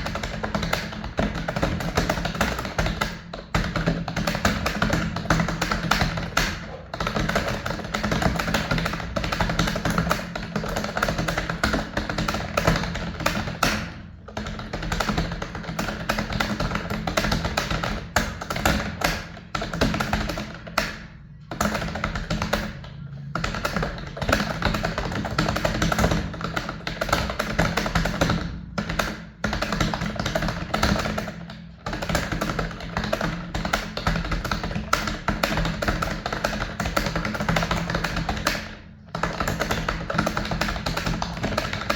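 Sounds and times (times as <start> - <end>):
fast typing on keyboard: 0.0 - 41.9.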